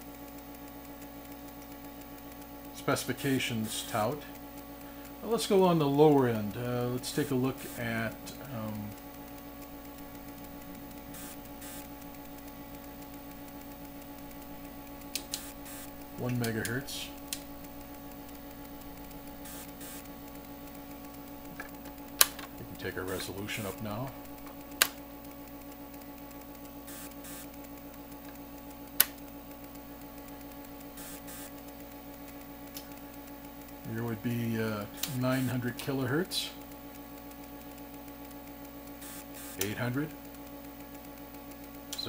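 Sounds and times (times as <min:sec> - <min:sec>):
electrical hum and hiss: 0:00.0 - 0:42.0
fixed steady tones: 0:04.5 - 0:42.0.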